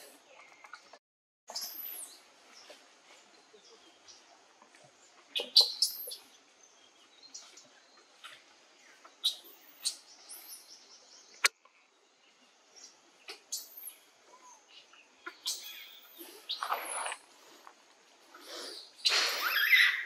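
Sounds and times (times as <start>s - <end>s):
birds chirping: 0.0s - 20.0s
background hiss: 1.5s - 20.0s.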